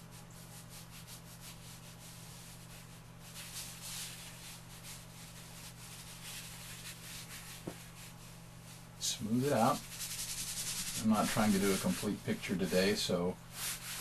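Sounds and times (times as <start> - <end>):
chalk scratching on a surface: 0.0 - 8.4, 9.1 - 14.0
faint low hum: 0.0 - 14.0.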